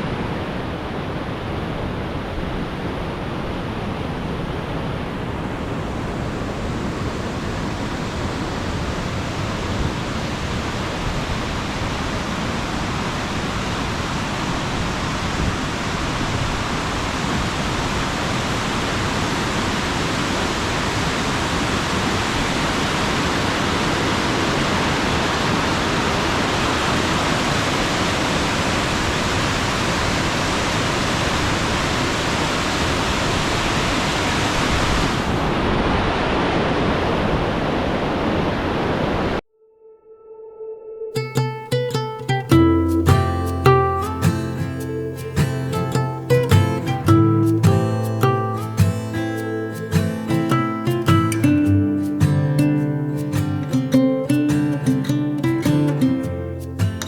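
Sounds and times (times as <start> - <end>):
waterfall roaring: 0.0 - 39.4, 41.3 - 57.0.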